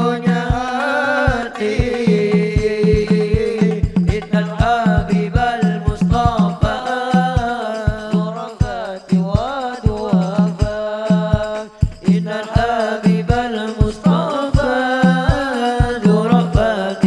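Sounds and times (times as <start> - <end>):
drums beating steady rhythm: 0.0 - 17.0
person singing devotional song: 0.0 - 17.0.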